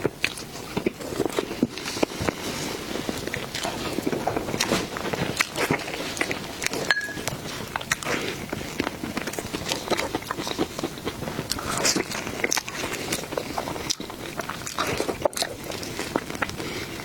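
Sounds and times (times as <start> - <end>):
person chewing and biting: 0.0 - 17.0.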